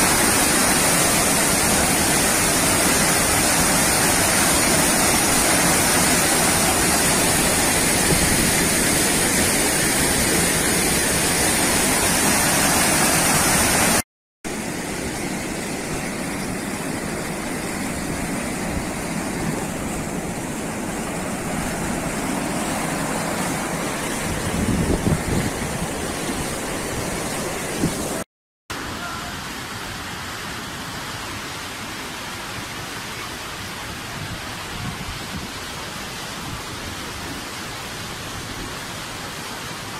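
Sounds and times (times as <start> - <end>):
floodwater rushing: 0.0 - 28.2, 28.8 - 39.9.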